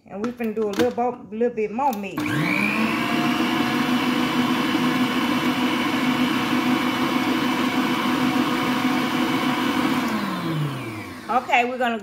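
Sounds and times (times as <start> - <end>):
stand mixer running: 2.2 - 11.8.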